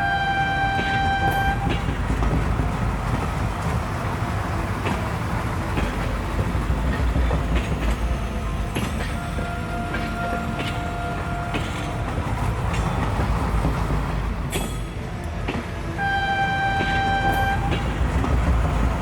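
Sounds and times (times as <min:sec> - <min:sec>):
train horn: 0:00.0 - 0:06.2, 0:08.7 - 0:19.0
clacking train wheels: 0:00.0 - 0:19.0
train rumbling by: 0:00.0 - 0:19.0.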